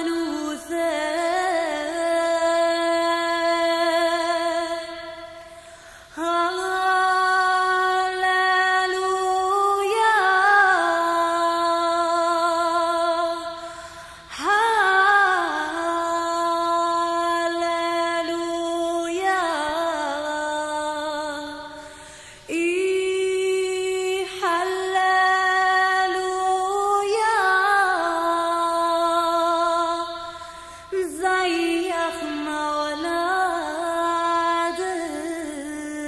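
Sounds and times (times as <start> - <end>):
woman singing alone: 0.0 - 36.0.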